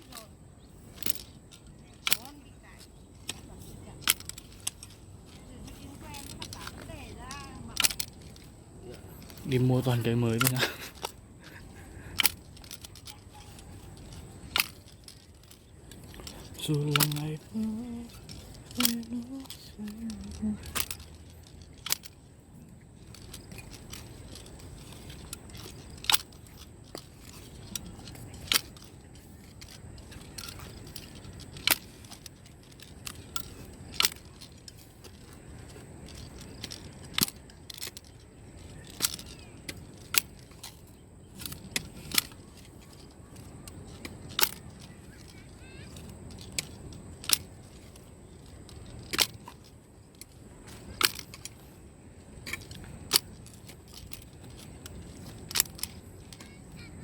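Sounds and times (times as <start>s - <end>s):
faint steady background noise: 0.0s - 57.0s.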